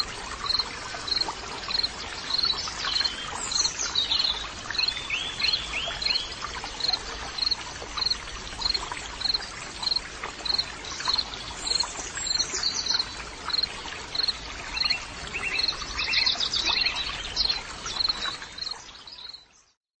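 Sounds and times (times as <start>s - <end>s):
steady hiss of insects or water: 0.0s - 19.8s.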